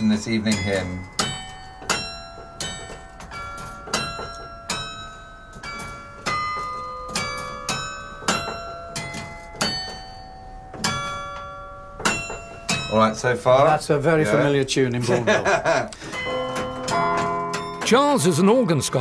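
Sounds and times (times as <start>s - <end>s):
carillon bells playing hymn: 0.0s - 14.6s, 15.2s - 19.0s.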